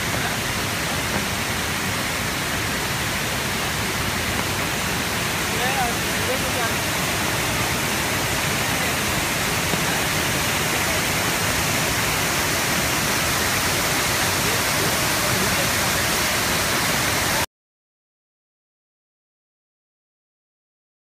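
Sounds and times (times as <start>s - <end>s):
waterfall rushing and splashing: 0.0s - 17.5s.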